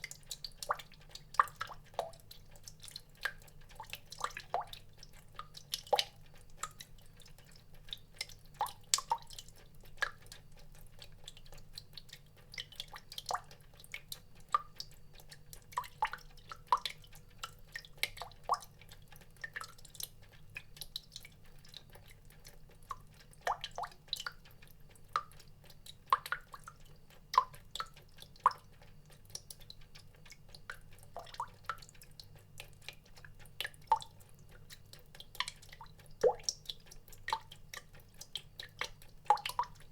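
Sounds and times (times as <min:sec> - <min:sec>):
water drops dripping: 0:00.0 - 0:39.9.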